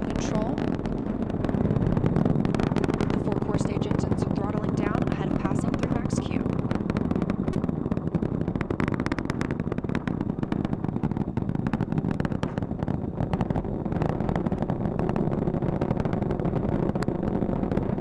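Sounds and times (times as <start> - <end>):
rocket exhaust deep rumble: 0.0 - 18.0.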